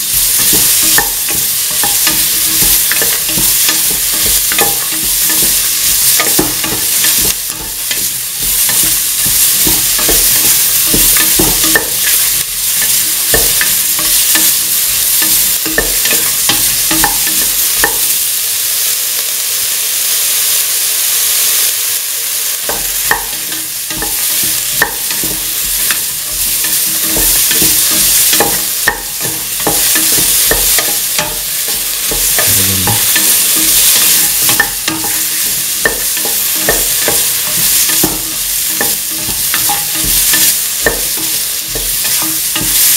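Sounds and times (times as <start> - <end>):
vegetables sizzling in hot oil: 0.0 - 42.9.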